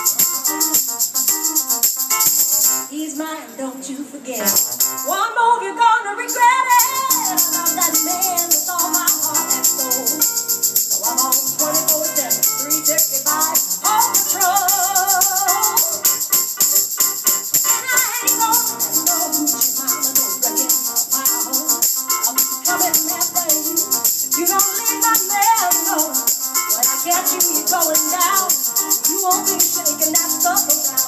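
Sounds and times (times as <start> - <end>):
hand shaker rhythm: 0.0 - 2.9, 4.4 - 5.1, 6.3 - 31.0
keyboard accompaniment: 0.0 - 3.0, 4.4 - 5.4, 6.3 - 31.0
woman singing: 2.9 - 16.4, 17.6 - 31.0.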